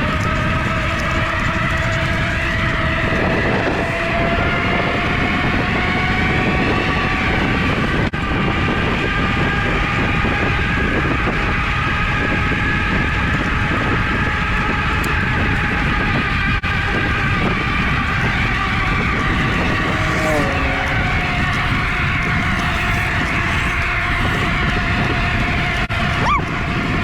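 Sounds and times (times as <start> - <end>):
electric hub motor whine: 0.0 - 27.0
wind: 0.0 - 27.0.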